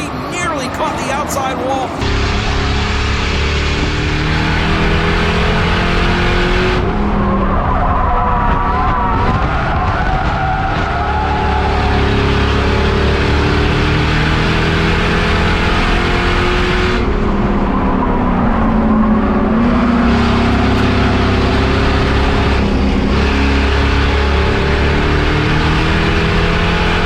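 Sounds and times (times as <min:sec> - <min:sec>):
race car engine at speed: 0:00.0 - 0:27.0.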